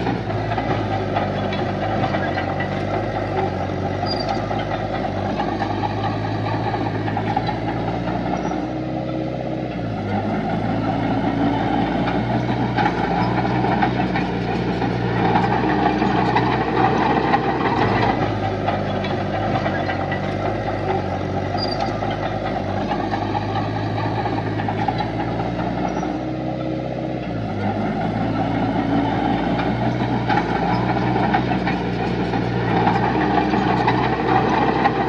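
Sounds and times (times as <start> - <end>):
heavy machinery diesel engine: 0.0 - 35.0.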